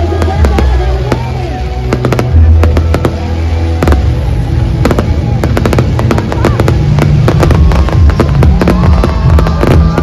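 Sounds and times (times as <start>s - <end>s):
fireworks bangs and crackles: 0.0s - 10.0s
loud music with heavy bass: 0.0s - 10.0s.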